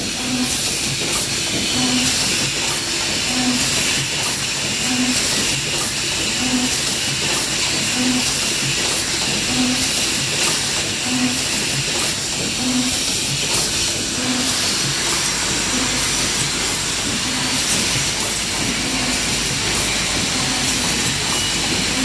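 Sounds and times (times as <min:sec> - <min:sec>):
pneumatic actuator ticks: 0:00.1 - 0:22.0
sealing machine hiss: 0:00.2 - 0:22.0.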